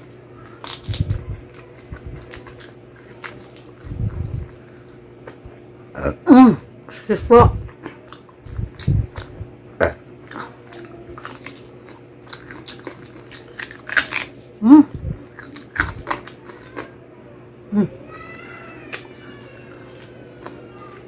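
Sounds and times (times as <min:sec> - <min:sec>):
biting and chewing meat: 0:00.0 - 0:06.7, 0:07.6 - 0:17.0, 0:18.1 - 0:21.0.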